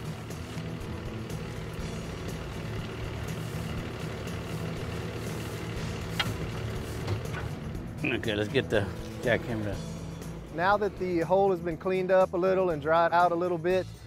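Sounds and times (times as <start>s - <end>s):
truck engine idling: 0.0s - 13.4s.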